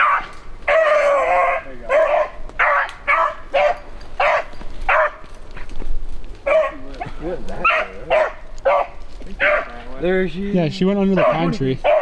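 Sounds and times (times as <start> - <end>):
dogs baying: 0.0 - 5.7, 6.4 - 9.9, 11.0 - 12.0.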